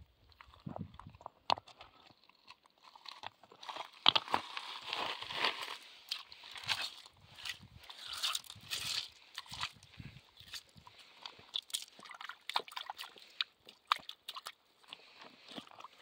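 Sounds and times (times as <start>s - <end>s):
wet gravel crunching: 0.4s - 16.0s.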